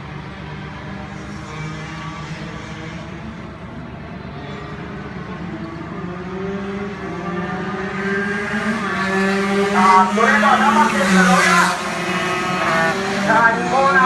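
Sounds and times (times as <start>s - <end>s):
race engine at high revs: 0.0s - 14.0s.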